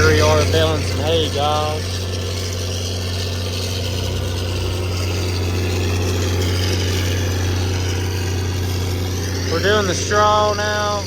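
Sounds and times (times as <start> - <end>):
tractor engine droning: 0.0 - 11.0.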